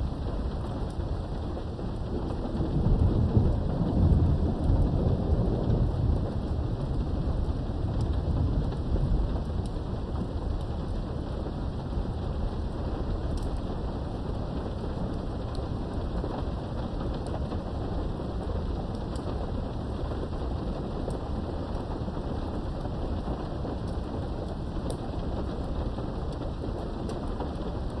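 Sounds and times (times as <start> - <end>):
low rumble of thunder: 0.0 - 28.0
steady rain: 0.0 - 28.0.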